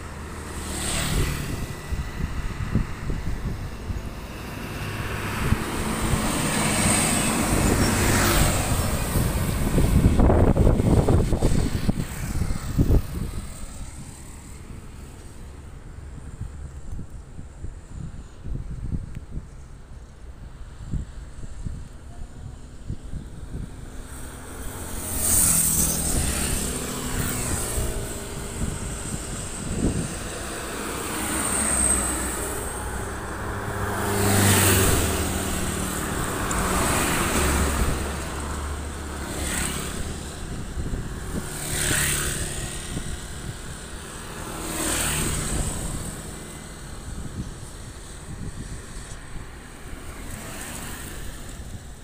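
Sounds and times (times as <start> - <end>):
highway traffic passing: 0.0 - 52.0.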